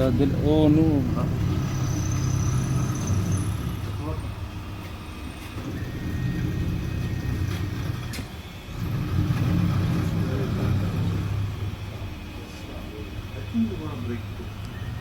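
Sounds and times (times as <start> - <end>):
milling machine hum: 0.0 - 15.0.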